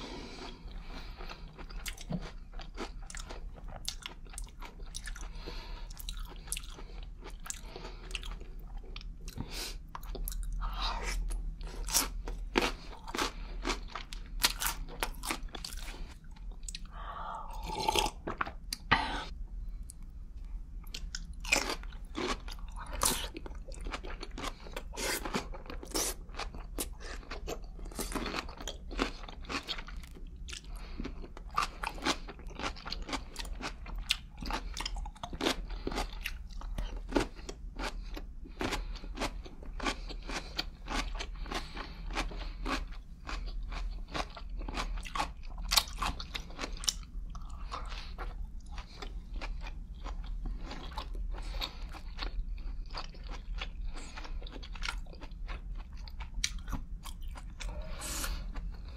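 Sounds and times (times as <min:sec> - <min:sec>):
chewing crunchy pickles: 0:00.1 - 0:17.0, 0:20.8 - 0:58.9.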